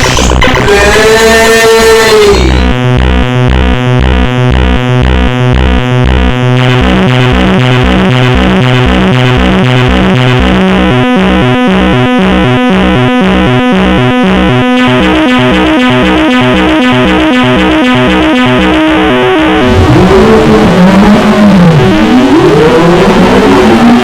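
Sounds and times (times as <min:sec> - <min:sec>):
pulsing bass: 0:00.0 - 0:24.0
synthesizer keyboard notes: 0:02.3 - 0:24.0.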